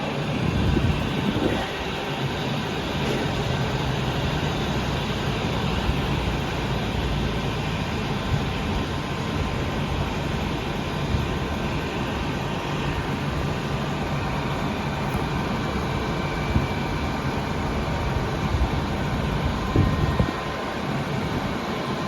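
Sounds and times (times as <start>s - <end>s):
train car equipment humming: 0.0s - 22.0s.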